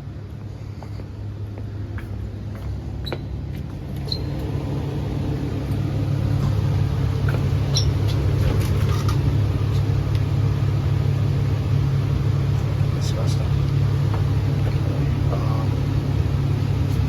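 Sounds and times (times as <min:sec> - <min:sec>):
air conditioner rumble and hum: 0:00.0 - 0:17.0.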